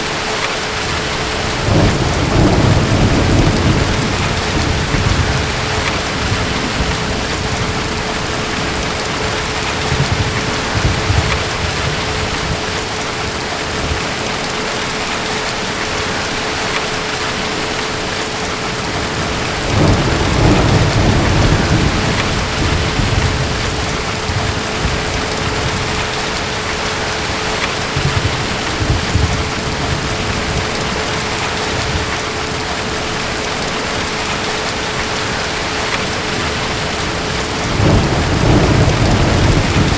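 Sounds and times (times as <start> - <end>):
steady rain: 0.0 - 39.9
distant thunder rumbling: 0.7 - 14.2, 18.5 - 34.4, 35.0 - 39.9.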